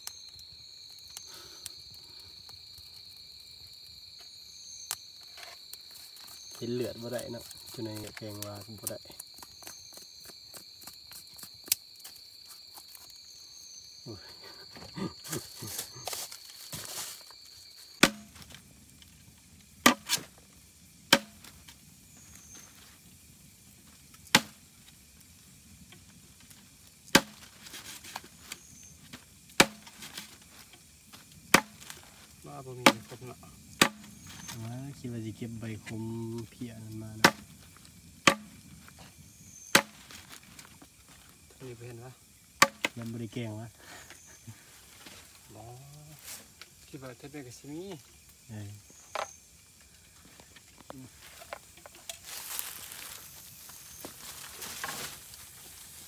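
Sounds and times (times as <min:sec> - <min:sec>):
night insects trilling: 0:00.0 - 0:56.0.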